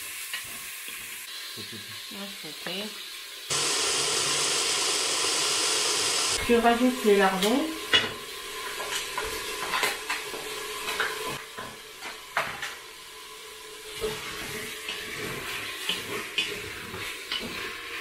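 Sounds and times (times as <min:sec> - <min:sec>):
meat sizzling in a pot: 0:00.0 - 0:18.0.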